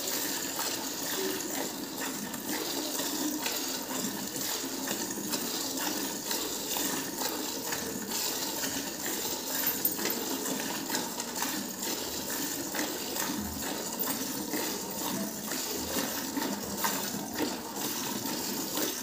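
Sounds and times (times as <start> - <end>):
milk squirting into metal pail: 0.0 - 19.0.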